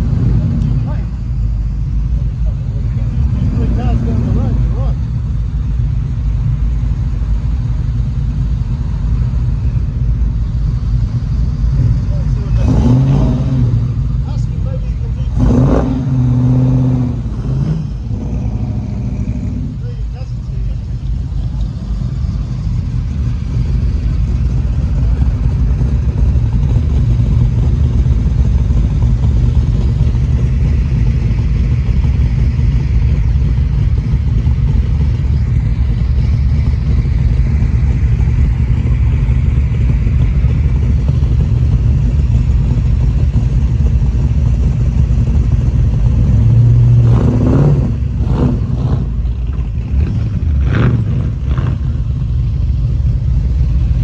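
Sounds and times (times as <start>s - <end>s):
engine revving: 0.0s - 5.2s, 10.8s - 54.0s
car engine exhaust rumble: 0.0s - 54.0s.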